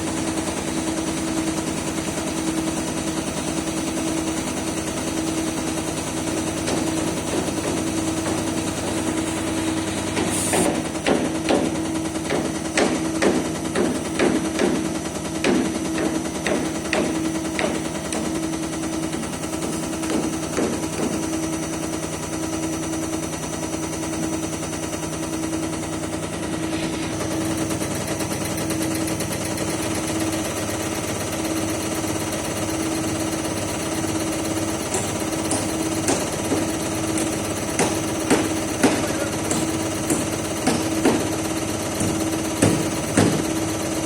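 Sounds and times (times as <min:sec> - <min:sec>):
motor hum: 0:00.0 - 0:44.0
injector firing clatter: 0:00.1 - 0:43.9.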